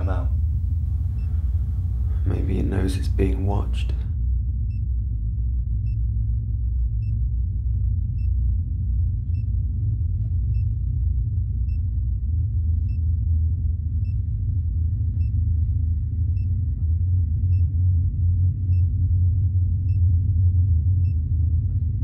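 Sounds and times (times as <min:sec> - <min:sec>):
low droning rumble: 0:00.0 - 0:22.0.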